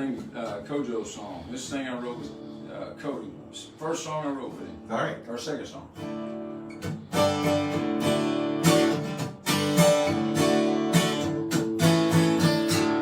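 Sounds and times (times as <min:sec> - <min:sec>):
acoustic guitar strumming chords: 0:02.1 - 0:13.0.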